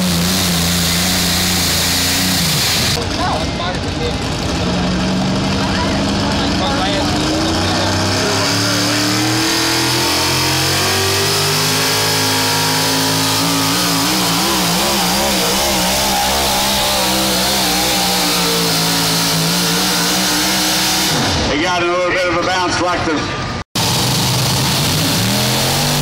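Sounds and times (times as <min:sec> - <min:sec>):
engine revving under load: 0:00.0 - 0:03.4, 0:04.1 - 0:21.5, 0:23.8 - 0:26.0.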